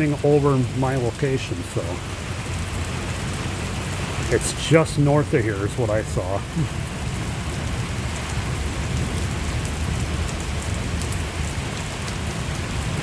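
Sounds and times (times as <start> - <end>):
raindrop ticks: 0.0 - 13.0
steady rain falling: 0.0 - 13.0.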